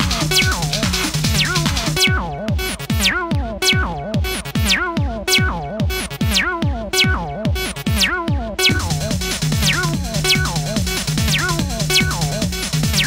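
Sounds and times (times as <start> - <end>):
acid techno music: 0.0 - 13.0
kick drum: 0.0 - 13.0.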